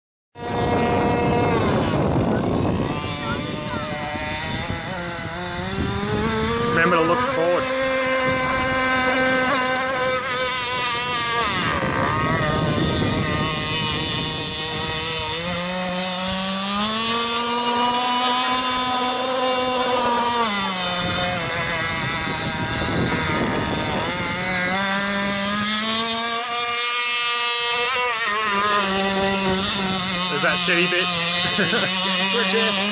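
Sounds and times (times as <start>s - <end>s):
model boat engine revving: 0.4s - 32.9s.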